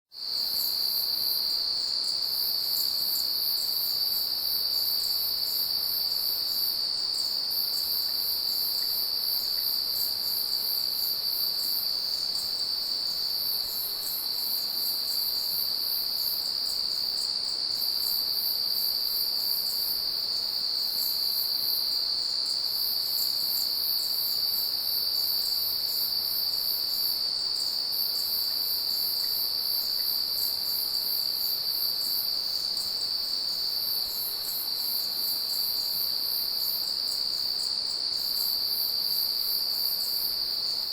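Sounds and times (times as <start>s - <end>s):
crickets steady trill: 0.2s - 40.9s.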